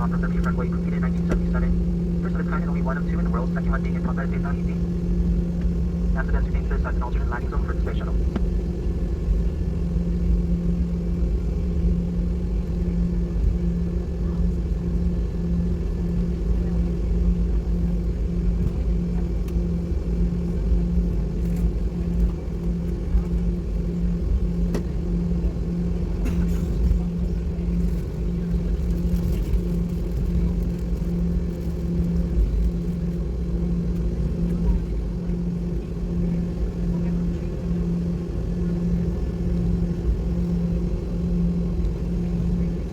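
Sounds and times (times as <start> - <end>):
jet engines rumbling in cabin: 0.0 - 42.9.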